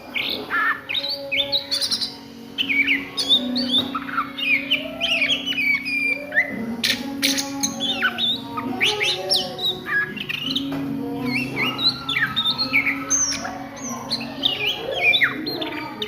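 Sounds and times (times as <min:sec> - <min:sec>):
bird singing whistled notes: 0:00.1 - 0:16.0.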